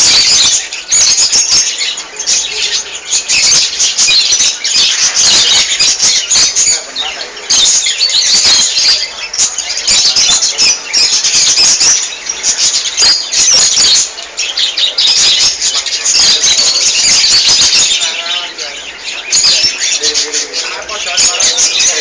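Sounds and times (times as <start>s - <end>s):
budgerigars chattering: 0.0s - 22.0s.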